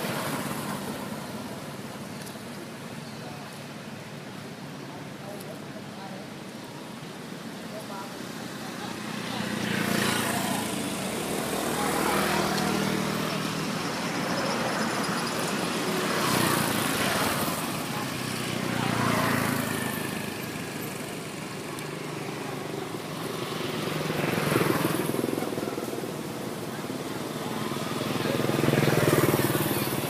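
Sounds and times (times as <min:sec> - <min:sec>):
vehicles passing by: 0:00.0 - 0:30.0.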